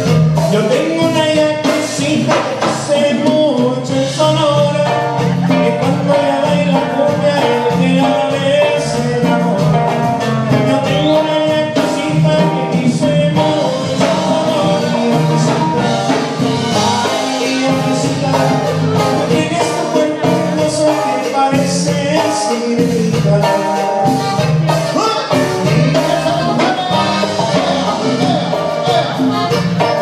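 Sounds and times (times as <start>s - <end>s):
live band playing dance music: 0.0s - 30.0s
person singing: 0.0s - 30.0s.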